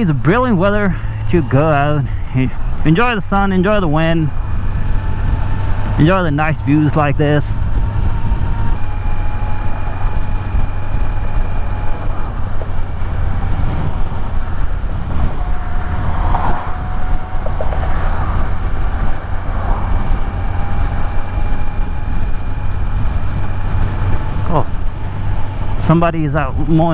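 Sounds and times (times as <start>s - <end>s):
motorcycle engine cruising: 0.0s - 26.9s
road noise: 0.0s - 26.9s.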